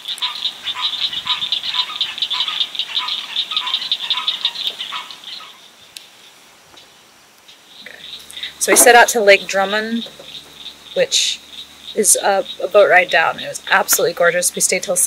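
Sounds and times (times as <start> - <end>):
chorus of swamp animals calling: 0.0 - 5.8, 7.7 - 15.0.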